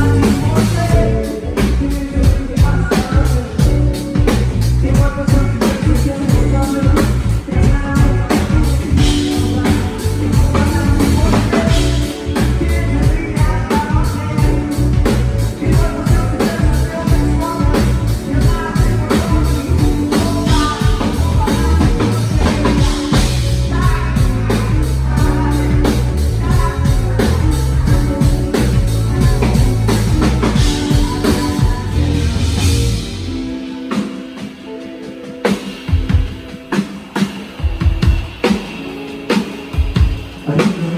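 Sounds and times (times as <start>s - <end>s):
bass guitar: 0.0s - 36.8s
drum kit: 0.0s - 40.9s
electric guitar: 0.0s - 40.9s
person singing: 0.0s - 40.9s.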